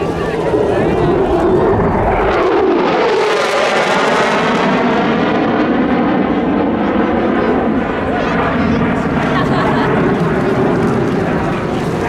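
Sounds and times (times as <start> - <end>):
jet engine roar with whine: 0.0 - 12.0.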